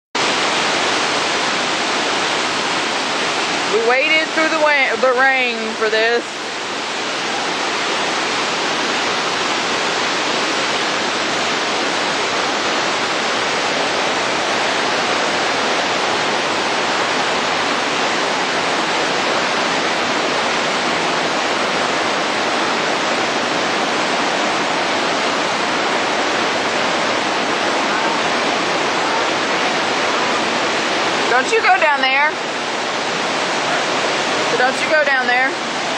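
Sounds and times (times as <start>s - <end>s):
waterfall rushing over rocks: 0.2s - 35.9s.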